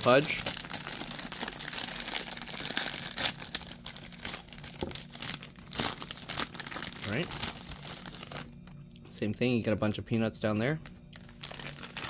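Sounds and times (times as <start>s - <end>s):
wrapper crinkling: 0.0s - 8.6s, 10.8s - 12.0s.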